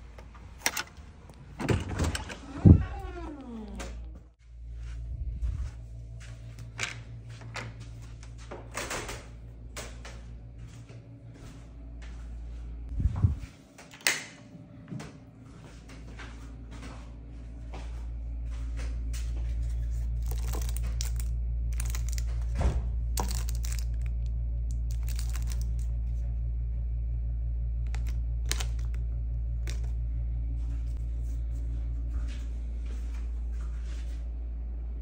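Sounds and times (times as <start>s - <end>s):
low hum: 0.0s - 35.0s.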